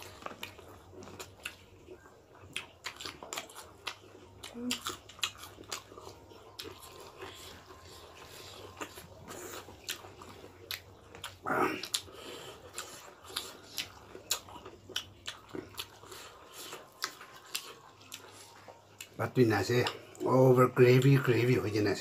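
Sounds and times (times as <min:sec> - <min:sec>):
chewing and lip-smacking: 0:00.0 - 0:20.4.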